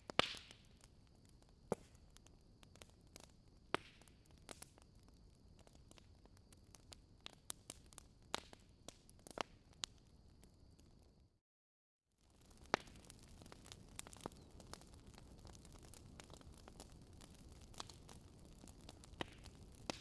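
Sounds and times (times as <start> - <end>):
bonfire crackling: 0.0 - 11.3, 12.1 - 20.0.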